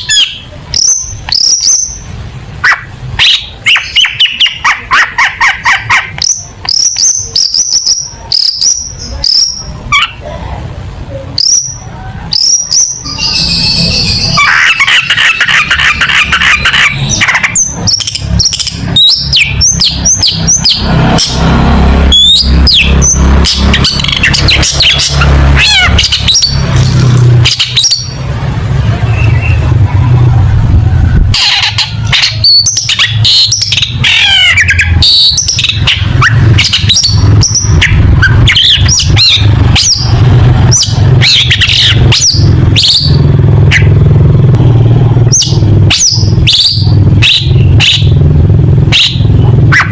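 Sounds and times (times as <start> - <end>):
bird singing varied song: 0.0 - 10.3, 11.2 - 30.2, 31.4 - 44.0, 45.2 - 49.9.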